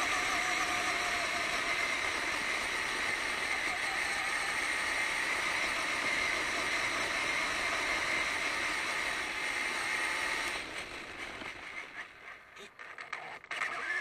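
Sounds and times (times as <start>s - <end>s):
drivetrain whine: 0.0s - 14.0s
tyre and road noise: 0.0s - 14.0s.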